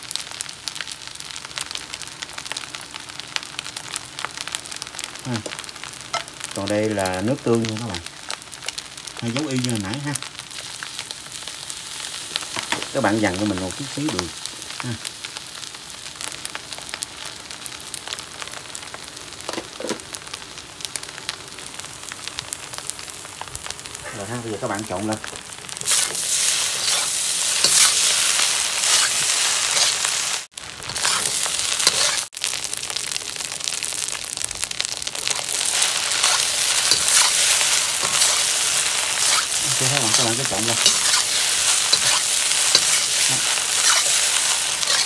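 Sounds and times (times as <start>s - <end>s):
rice sizzling in a wok: 0.0s - 45.0s.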